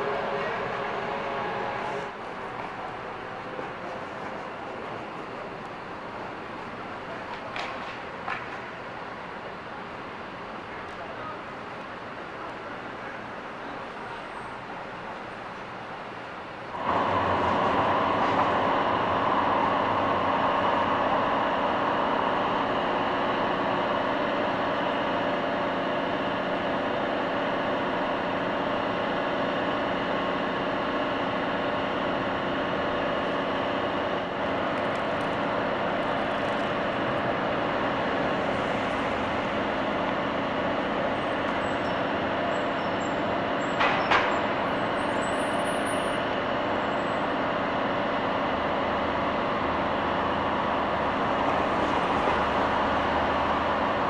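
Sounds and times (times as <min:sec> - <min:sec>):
constant mechanical hum: 0:00.0 - 0:54.0
light rail trains rolling: 0:00.0 - 0:54.0
street noise: 0:00.0 - 0:54.0.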